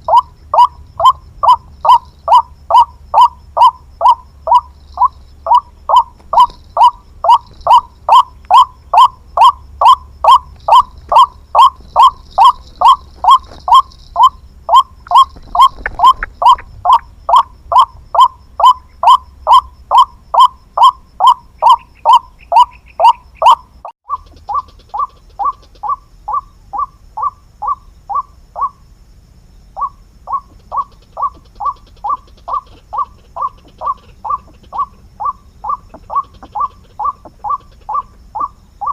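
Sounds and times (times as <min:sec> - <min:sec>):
waterhen calling: 0:00.0 - 0:28.8, 0:29.8 - 0:38.9.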